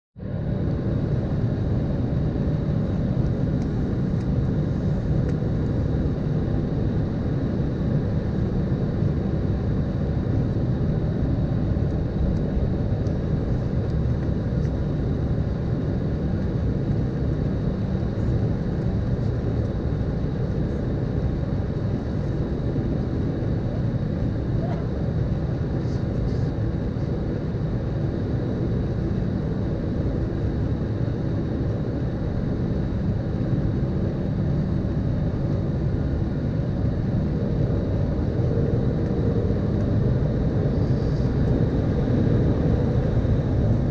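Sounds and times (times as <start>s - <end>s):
jet engine rumble in cabin: 0.2s - 43.9s.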